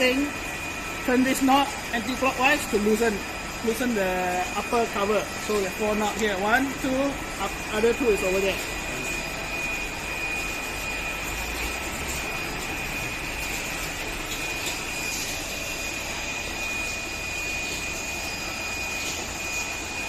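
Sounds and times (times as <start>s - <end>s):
high-pitched whine: 0.0s - 20.0s
machine rushing hum: 0.0s - 20.0s.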